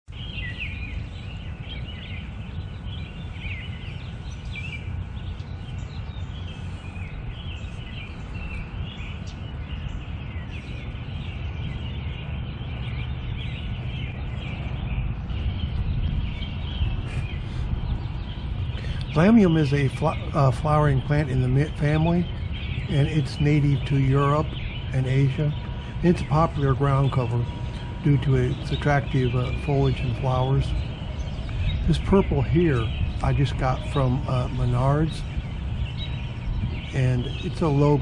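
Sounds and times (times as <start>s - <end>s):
birds chirping and singing: 0.1s - 38.0s.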